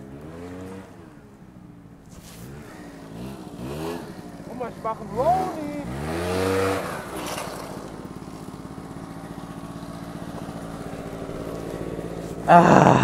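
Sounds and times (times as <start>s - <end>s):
scooter engine idling and revving: 0.0s - 13.0s.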